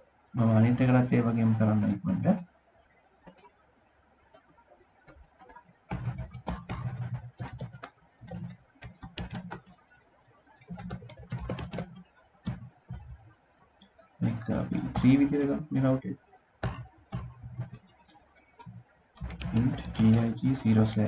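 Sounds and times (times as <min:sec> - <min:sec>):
typing on computer keyboard: 0:00.4 - 0:02.5, 0:03.2 - 0:03.6, 0:04.3 - 0:13.4, 0:14.3 - 0:15.7, 0:16.6 - 0:21.0.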